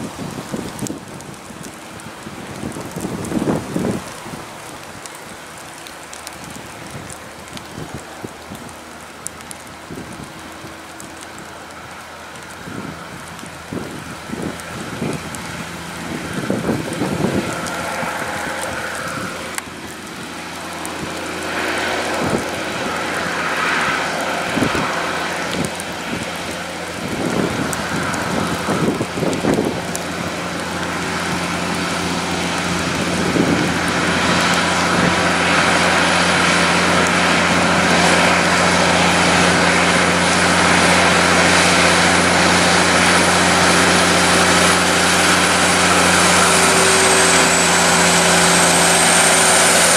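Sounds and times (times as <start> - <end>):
truck diesel engine droning: 0.0 - 49.9
tyres hissing on wet road: 0.0 - 49.9.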